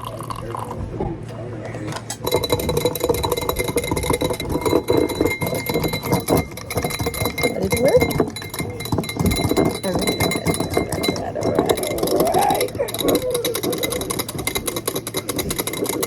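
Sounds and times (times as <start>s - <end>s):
dishes clinking and rattling: 0.0s - 16.0s
faint voices: 0.0s - 16.0s.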